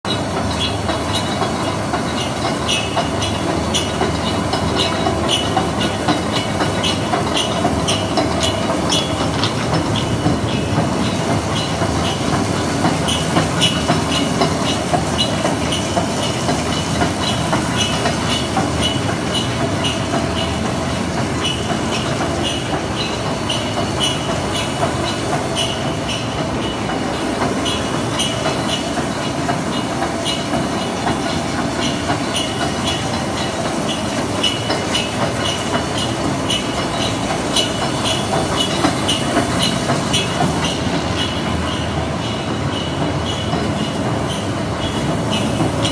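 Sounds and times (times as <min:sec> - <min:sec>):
printing press clattering: 0:00.1 - 0:45.9.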